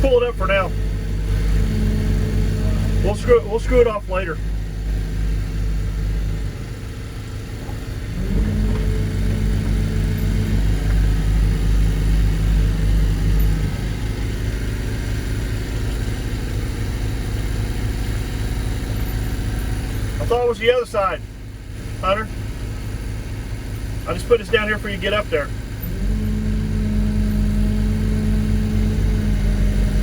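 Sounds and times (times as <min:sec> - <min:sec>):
vibratory hammer engine droning: 0:00.0 - 0:30.0.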